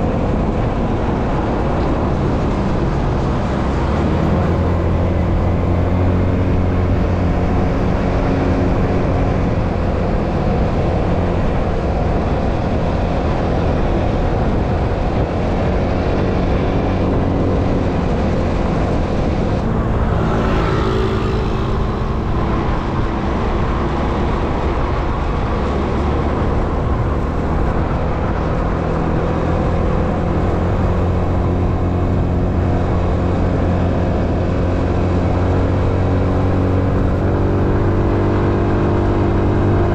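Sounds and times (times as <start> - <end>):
vehicle engine with road noise: 0.0 - 39.9.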